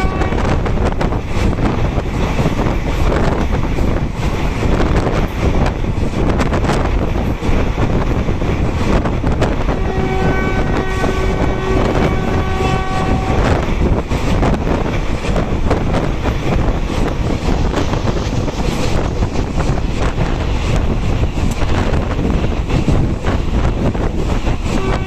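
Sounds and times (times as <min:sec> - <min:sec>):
train running at speed: 0:00.0 - 0:25.0
wind buffeting microphone: 0:00.0 - 0:25.0.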